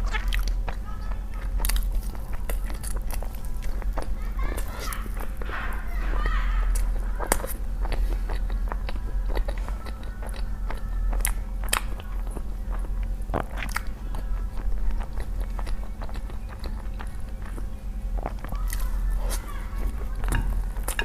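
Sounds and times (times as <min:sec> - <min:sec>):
chewing noodles: 0:00.0 - 0:21.0
steady low hum: 0:00.0 - 0:21.0.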